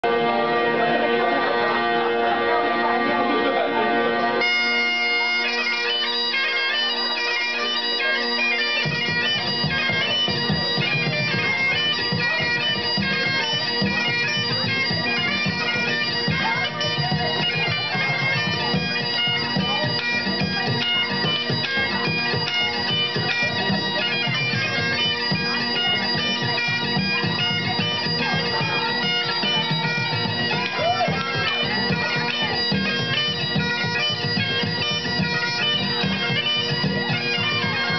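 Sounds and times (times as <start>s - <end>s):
bagpipe playing lively tune: 0.0s - 37.9s.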